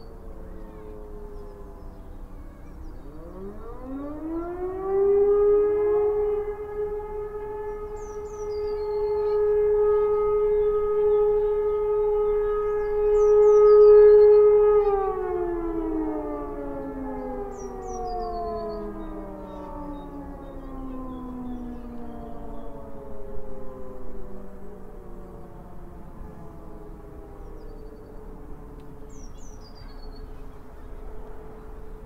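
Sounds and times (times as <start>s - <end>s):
civil defence siren wailing: 0.0s - 32.0s.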